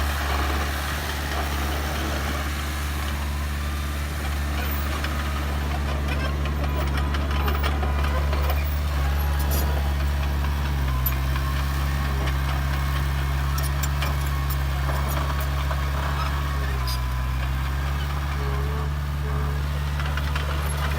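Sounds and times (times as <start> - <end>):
heavy diesel engine running: 0.0 - 20.9.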